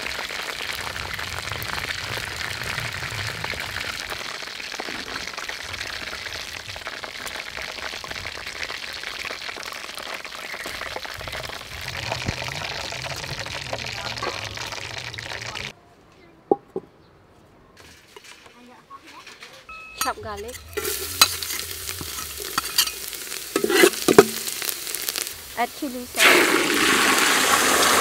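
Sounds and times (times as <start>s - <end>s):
chicken deep-frying in oil: 0.0s - 15.7s, 20.7s - 28.0s.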